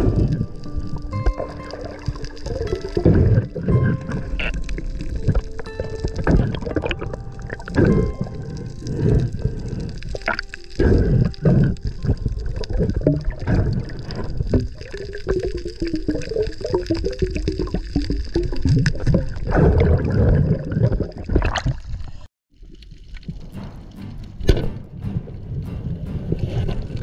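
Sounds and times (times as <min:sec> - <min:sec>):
water gurgling and sloshing: 0:00.0 - 0:27.0.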